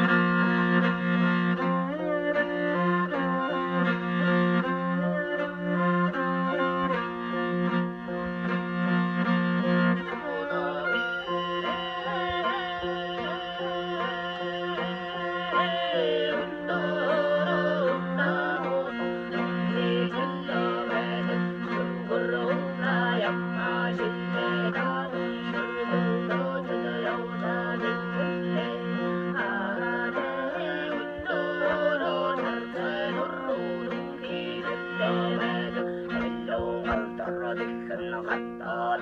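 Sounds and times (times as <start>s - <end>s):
bowed fiddle over drone: 0.0s - 39.0s
plucked lute: 0.0s - 39.0s.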